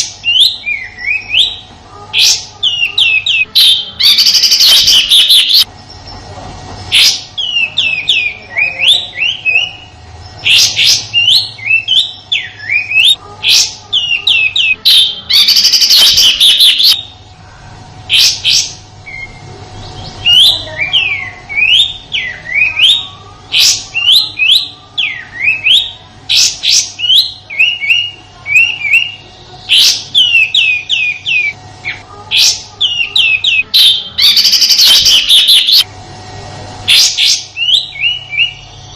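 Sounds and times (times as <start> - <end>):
bird singing rapid chirps: 0.0 - 6.2, 6.9 - 17.3, 18.1 - 35.8, 36.9 - 38.9
faint steady hum: 0.0 - 38.9.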